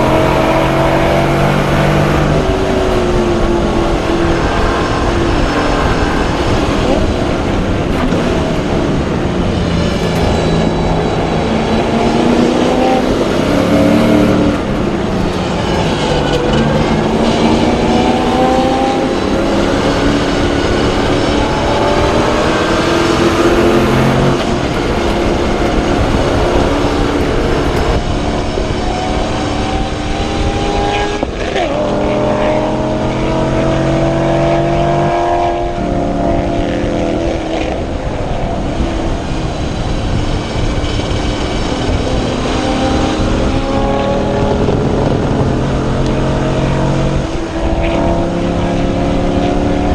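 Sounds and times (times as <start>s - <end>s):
race car engine at full throttle: 0.0s - 49.9s.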